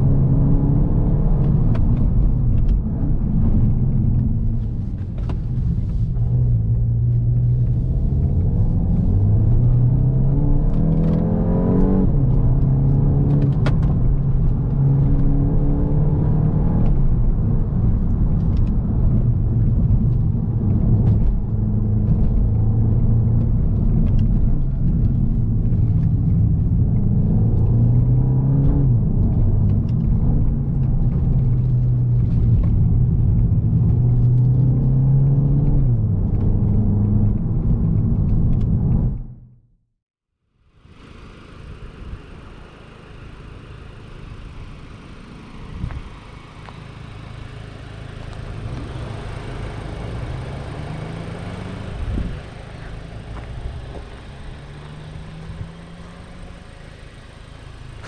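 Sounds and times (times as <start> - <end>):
car engine accelerating and shifting: 0.0 - 39.6, 40.7 - 58.0
road rumble: 0.0 - 58.0.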